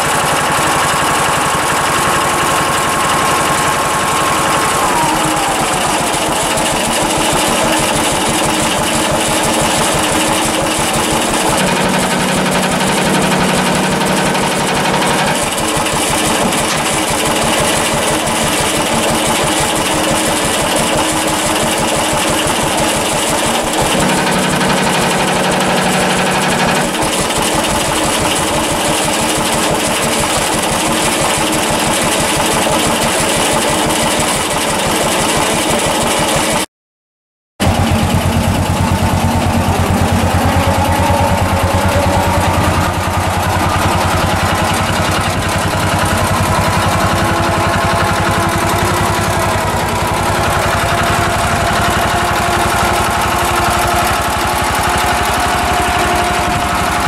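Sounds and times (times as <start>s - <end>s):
tractor engine running: 0.0s - 36.6s, 37.6s - 57.0s.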